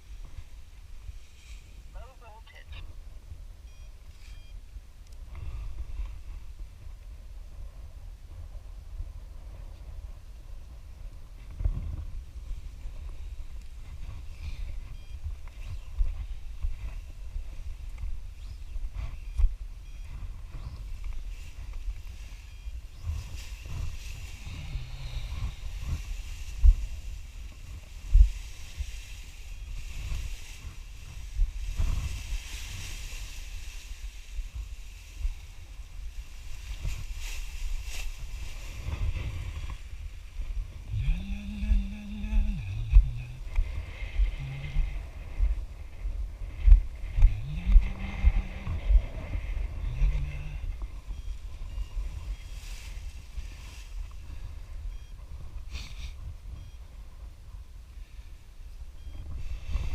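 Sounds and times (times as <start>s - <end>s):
low steady tone: 0.0s - 59.9s
wind buffeting microphone: 4.8s - 57.6s.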